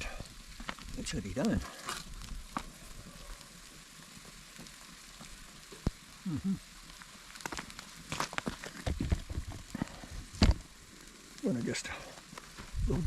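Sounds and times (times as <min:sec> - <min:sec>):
crackles and knocks: 0:00.0 - 0:13.0
food sizzling in a frying pan: 0:00.0 - 0:13.0.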